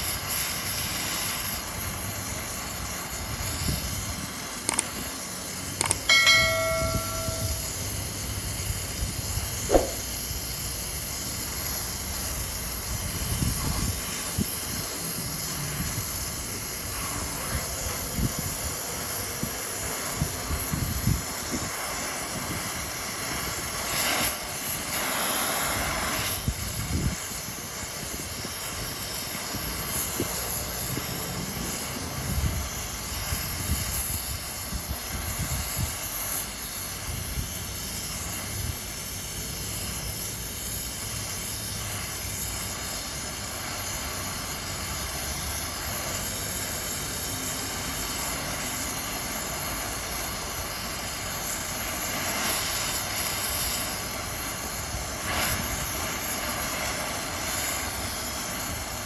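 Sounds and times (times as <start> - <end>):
arc welding hiss: 0.0 - 59.0.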